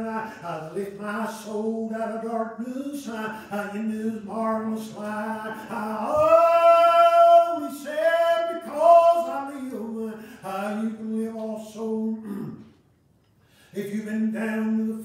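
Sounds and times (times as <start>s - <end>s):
man chanting sung preaching: 0.0s - 12.6s, 13.8s - 15.0s.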